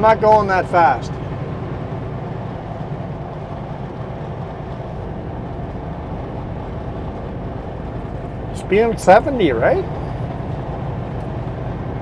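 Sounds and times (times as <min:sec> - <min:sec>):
road noise inside cab: 0:00.0 - 0:12.0
truck diesel engine drone: 0:00.0 - 0:12.0.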